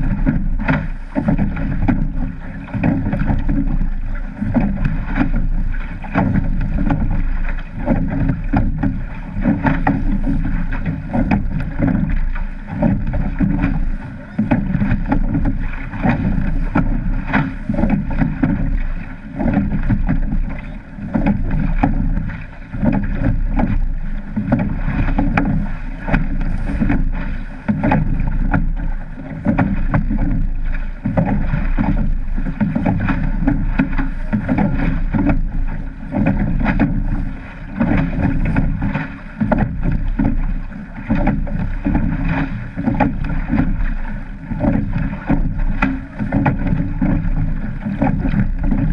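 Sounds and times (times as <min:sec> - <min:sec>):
oars knocking and splashing: 0:00.0 - 0:48.9
water rushing along hull: 0:00.0 - 0:48.9
wind on microphone: 0:00.0 - 0:48.9.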